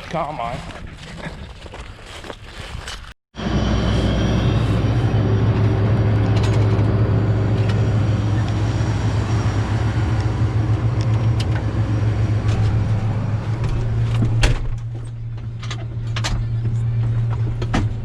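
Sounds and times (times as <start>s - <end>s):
combine harvester drone: 3.4s - 18.0s.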